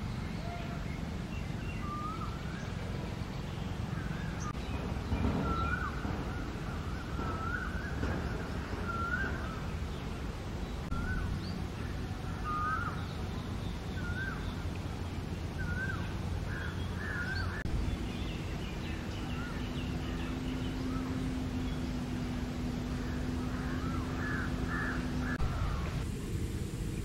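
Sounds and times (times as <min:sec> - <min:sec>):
low outdoor rumble: 0:00.0 - 0:27.0
low steady hum: 0:00.0 - 0:27.0
bird calling in wavering notes: 0:00.1 - 0:04.6, 0:05.3 - 0:10.0, 0:10.8 - 0:26.0.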